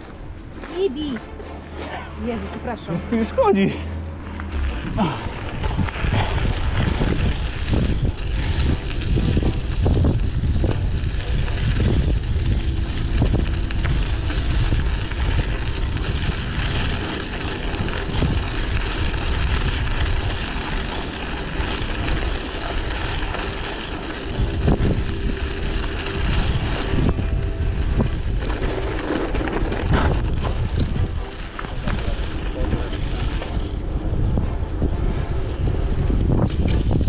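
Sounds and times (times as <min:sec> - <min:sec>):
wind buffeting microphone: 0:04.5 - 0:37.0.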